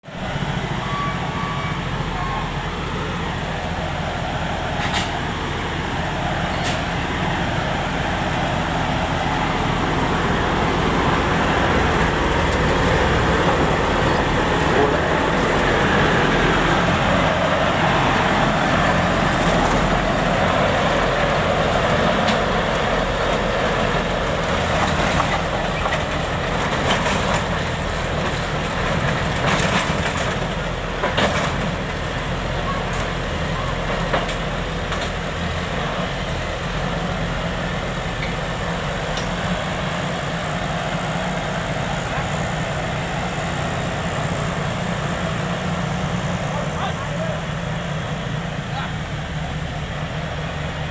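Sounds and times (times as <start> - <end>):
loud diesel engine exhaust: 0.0 - 50.9.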